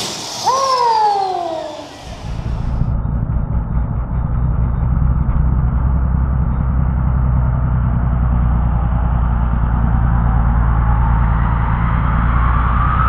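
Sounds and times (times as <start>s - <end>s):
large engine idling: 0.0s - 12.3s.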